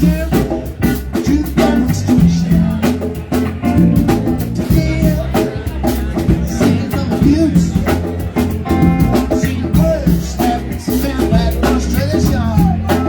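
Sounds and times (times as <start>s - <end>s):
bass and electric guitar: 0.0s - 13.0s
drum kit beat: 0.0s - 13.0s.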